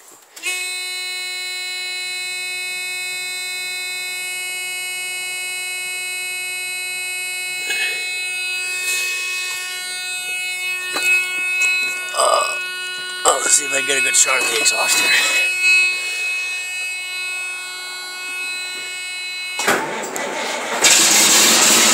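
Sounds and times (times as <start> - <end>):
warning buzzer: 0.4 - 21.9.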